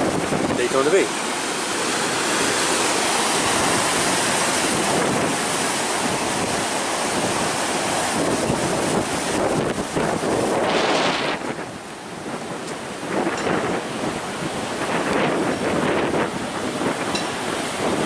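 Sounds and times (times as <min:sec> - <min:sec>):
waves breaking: 0:00.0 - 0:18.0
wind blowing across microphone: 0:00.0 - 0:18.0.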